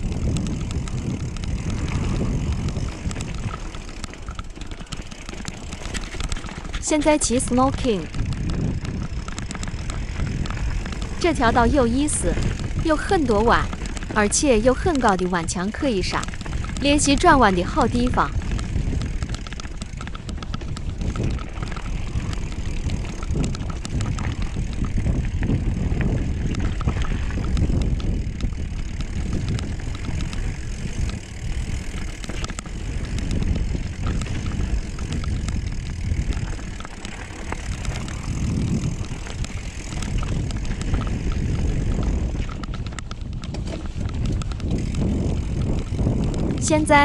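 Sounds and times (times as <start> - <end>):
bike rattling over bumps: 0.0 - 47.0
bike tyres rolling: 0.0 - 47.0
wind rushing over microphone: 0.0 - 47.0.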